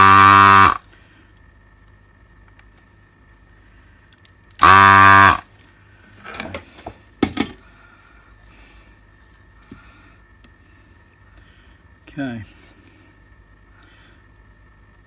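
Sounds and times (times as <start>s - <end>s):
desoldering pump buzzing: 0.0s - 15.0s.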